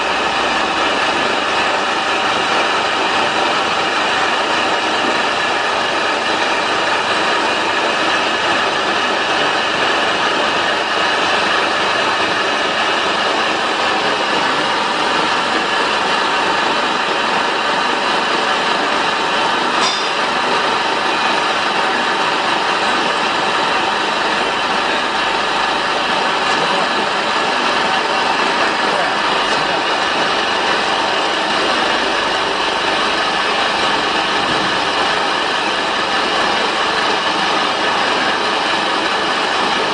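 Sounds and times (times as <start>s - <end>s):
pellet mill machine running: 0.0s - 39.9s.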